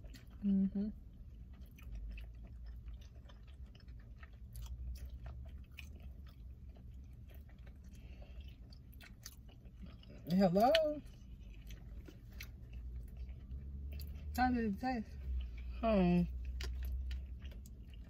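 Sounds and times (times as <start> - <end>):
person chewing food: 0.0 - 14.4, 15.2 - 18.0.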